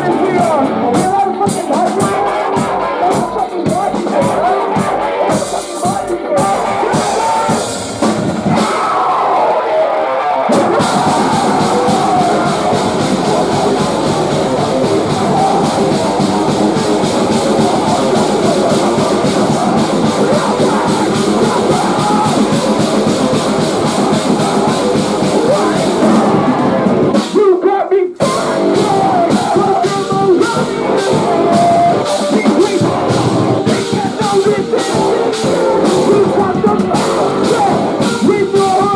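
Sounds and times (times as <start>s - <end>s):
rock band playing live: 0.0s - 9.4s, 10.0s - 27.5s, 28.2s - 38.9s.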